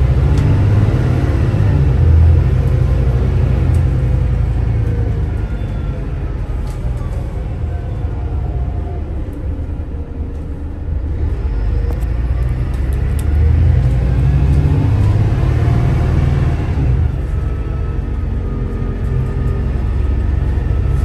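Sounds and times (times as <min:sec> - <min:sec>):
bus diesel engine accelerating: 0:00.0 - 0:21.0.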